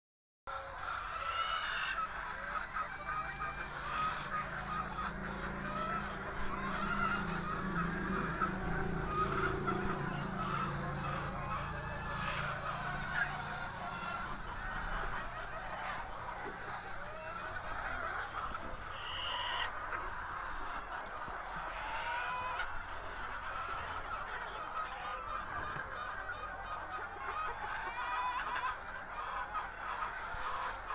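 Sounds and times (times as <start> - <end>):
chickens calling: 0.5 - 30.9.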